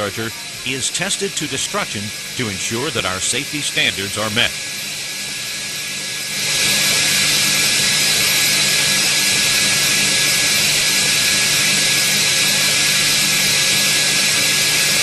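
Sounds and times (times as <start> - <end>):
turbocharger spinning at high speed: 0.0 - 15.0.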